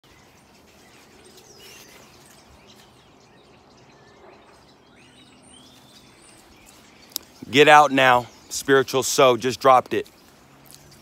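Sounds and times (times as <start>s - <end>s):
birds chirping: 0.0s - 11.0s
faint outdoor background noise: 0.0s - 11.0s.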